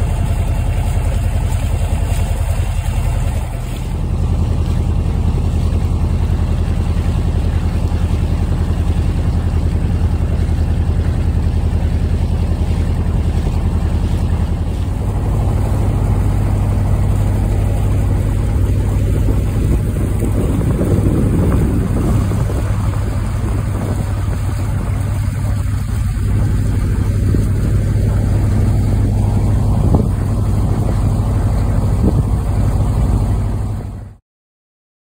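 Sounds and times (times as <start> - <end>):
wind buffeting microphone: 0.0 - 34.1
motorboat engine drone: 0.0 - 34.2.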